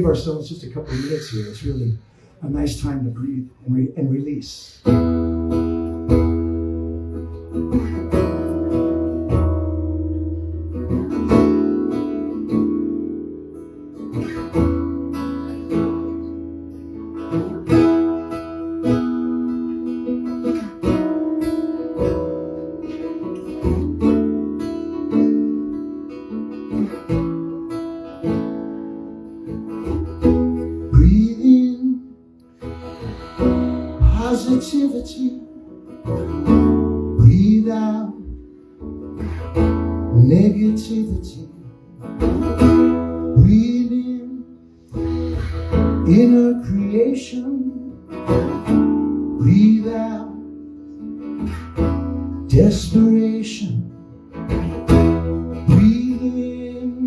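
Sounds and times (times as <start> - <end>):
acoustic guitar chords: 4.4 - 57.0.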